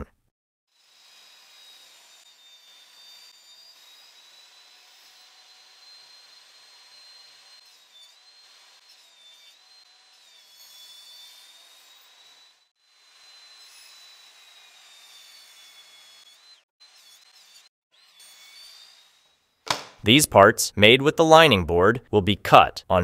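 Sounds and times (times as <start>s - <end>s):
table saw blade whine: 0.7s - 19.6s.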